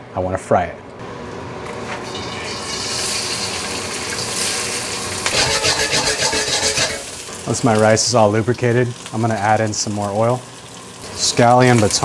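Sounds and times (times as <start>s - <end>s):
rice sizzling: 1.8s - 12.0s
hot oil hissing in a wok: 2.0s - 12.0s.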